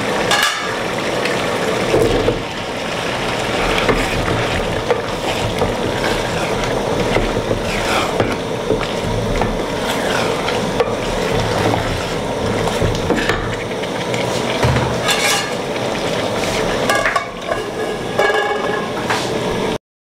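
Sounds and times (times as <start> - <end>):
sauce sizzling: 0.0 - 19.7.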